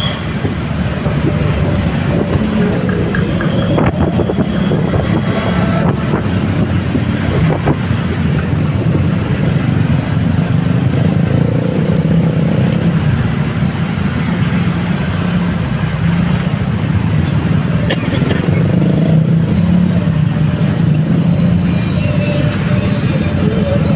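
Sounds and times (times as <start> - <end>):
road traffic drone: 0.0 - 23.9.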